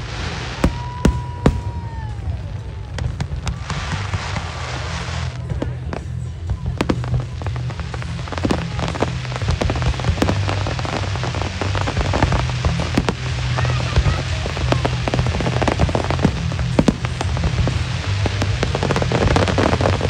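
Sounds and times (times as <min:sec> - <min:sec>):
fireworks bursting: 0:00.0 - 0:20.0
fireworks crackling hiss: 0:00.0 - 0:20.0
music with low beat: 0:03.0 - 0:20.0.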